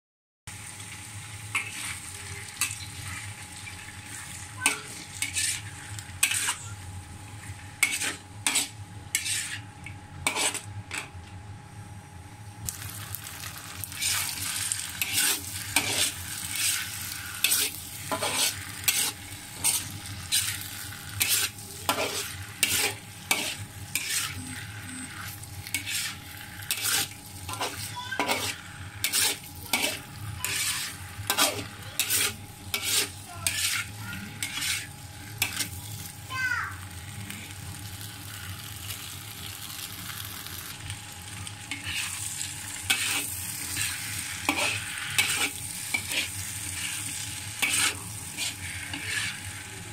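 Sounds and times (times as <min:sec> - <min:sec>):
food sizzling in wok: 0:00.5 - 0:11.0, 0:12.6 - 0:49.9
spatula scraping and knocking wok: 0:01.5 - 0:11.2, 0:13.0 - 0:36.2, 0:37.4 - 0:49.9.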